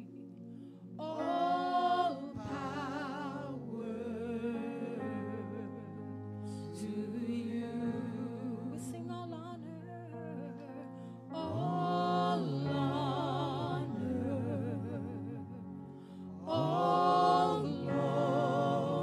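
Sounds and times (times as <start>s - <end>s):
held accompanying chords: 0.0s - 19.0s
group singing worship song: 1.0s - 10.6s, 11.2s - 19.0s.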